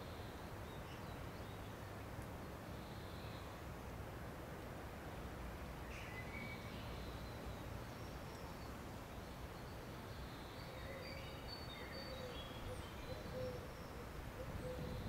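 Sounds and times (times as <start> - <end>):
low rumble of distant noise: 0.0 - 15.0.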